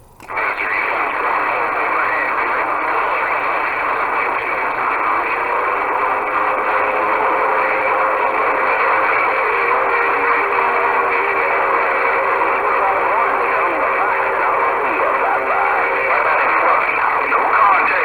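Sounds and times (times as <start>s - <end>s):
radio static hiss: 0.0s - 18.0s
faint radio whistles: 0.2s - 18.0s.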